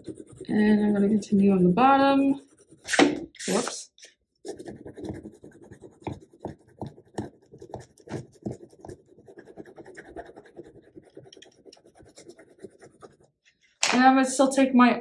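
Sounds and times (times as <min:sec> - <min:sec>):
crayon scratching on paper: 0:00.0 - 0:03.8, 0:04.4 - 0:13.4.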